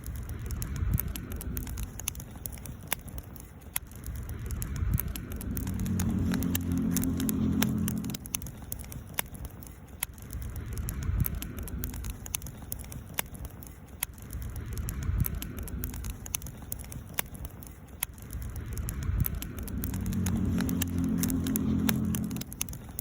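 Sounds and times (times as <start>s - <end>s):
low rumble: 0.0s - 2.6s, 3.9s - 9.6s, 10.2s - 13.0s, 14.2s - 17.5s, 18.2s - 23.0s
campfire crackling and popping: 0.0s - 23.0s.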